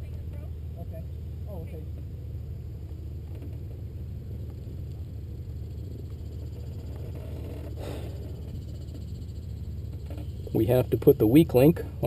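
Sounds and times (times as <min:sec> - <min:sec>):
piston engine idling: 0:00.0 - 0:12.0.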